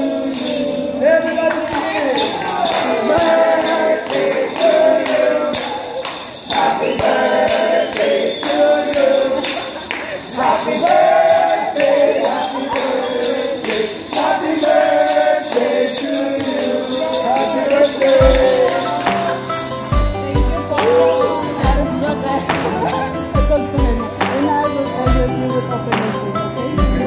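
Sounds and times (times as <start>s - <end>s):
group singing: 0.0s - 27.0s
maracas shaking: 0.0s - 27.0s
hands clapping: 1.4s - 21.7s, 22.4s - 23.1s, 24.2s - 24.6s, 25.9s - 26.3s.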